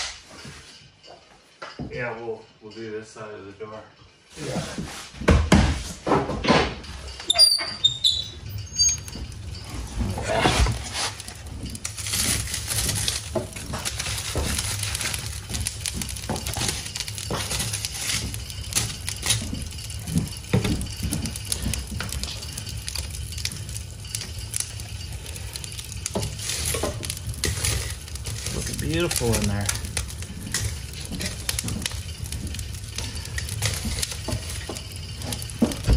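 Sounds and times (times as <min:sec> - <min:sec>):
fire crackling and popping: 0:06.8 - 0:35.9.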